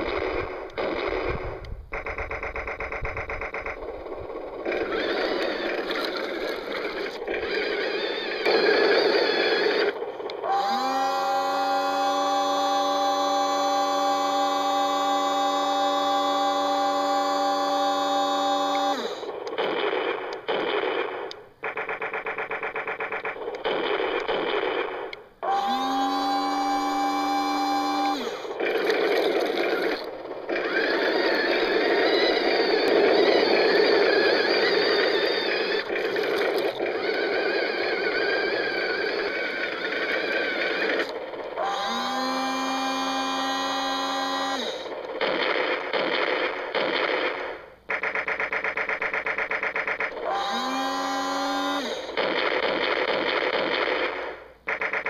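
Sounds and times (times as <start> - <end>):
toy tank engine sound effects: 0.0 - 55.0.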